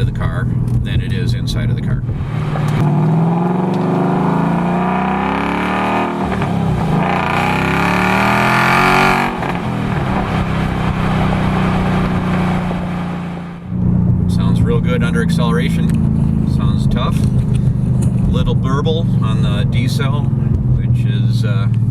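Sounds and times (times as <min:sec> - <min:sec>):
car engine accelerating: 0:00.0 - 0:21.9
engine burble on deceleration: 0:00.0 - 0:21.9.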